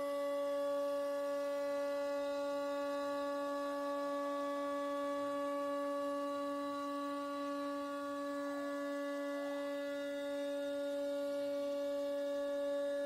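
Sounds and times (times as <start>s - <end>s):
router spindle high whine: 0.0s - 13.0s.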